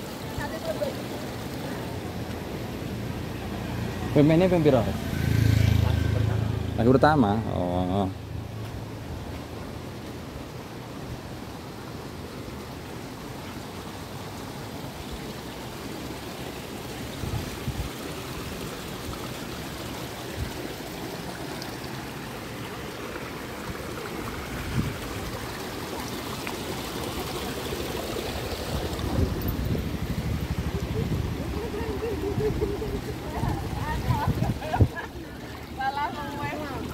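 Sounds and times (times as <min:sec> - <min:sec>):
running water rushing: 0:00.0 - 0:36.9.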